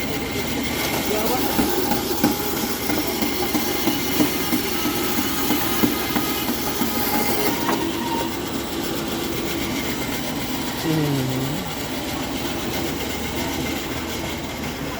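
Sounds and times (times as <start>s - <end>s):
bandsaw running: 0.1s - 14.9s.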